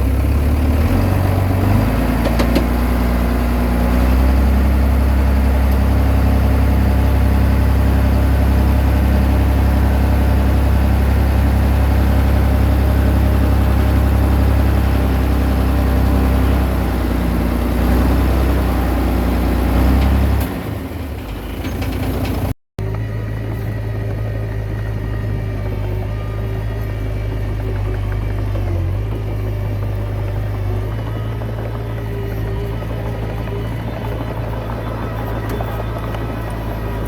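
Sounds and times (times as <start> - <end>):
bulldozer diesel engine running: 0.0 - 37.0.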